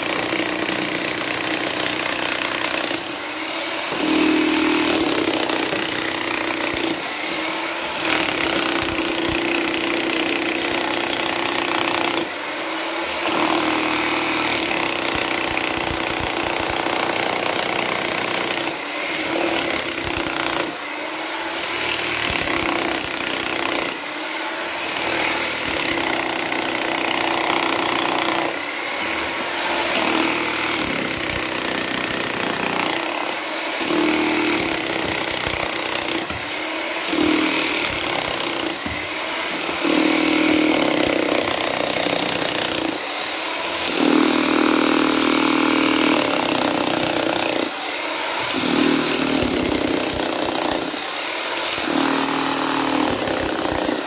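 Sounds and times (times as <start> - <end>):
demolition hammer chiselling ground: 0.0 - 54.0.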